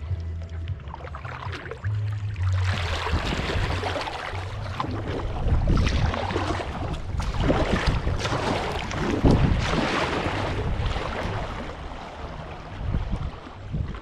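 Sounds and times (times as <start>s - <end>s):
water splashing and lapping: 0.0s - 14.0s
wind rumbling on microphone: 0.0s - 14.0s.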